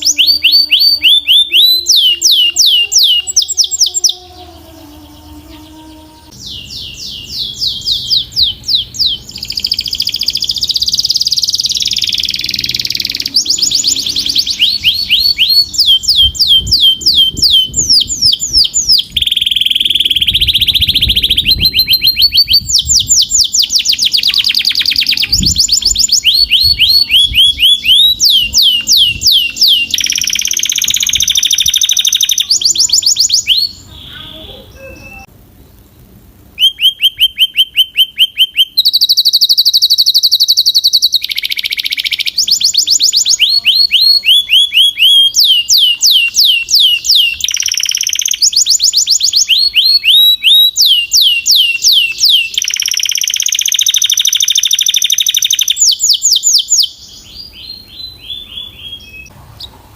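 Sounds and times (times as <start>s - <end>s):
canary singing trills: 0.0s - 59.8s.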